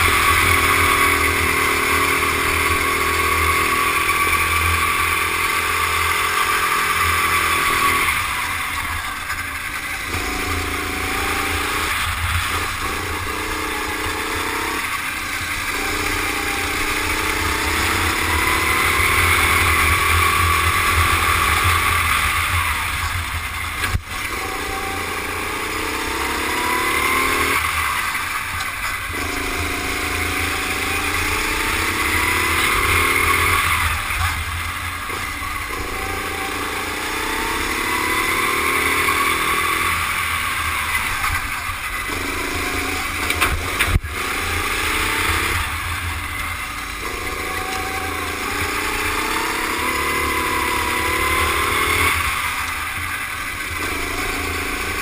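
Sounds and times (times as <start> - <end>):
go-kart engine accelerating: 0.0 - 55.0.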